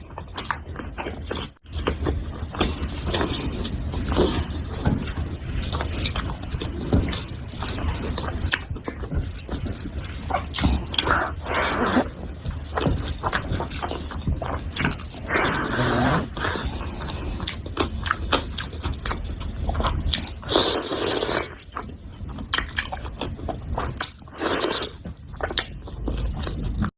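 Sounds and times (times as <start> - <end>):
wet chewing and lip-smacking: 0.0 - 26.9.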